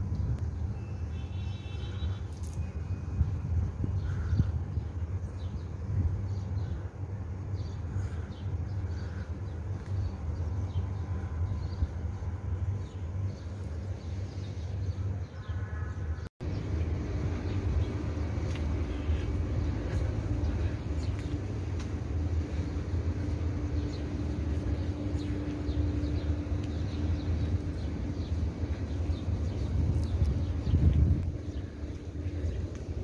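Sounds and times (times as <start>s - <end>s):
steady low rumble: 0.0s - 0.8s, 1.9s - 33.0s.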